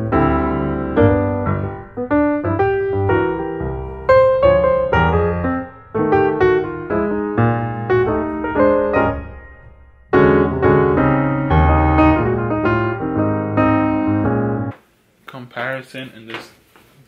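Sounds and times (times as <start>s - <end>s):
piano music: 0.0s - 14.8s.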